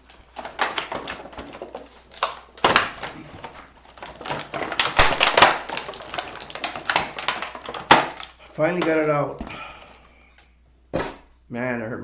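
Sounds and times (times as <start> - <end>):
toy packaging rustling and clicking: 0.0 - 11.2.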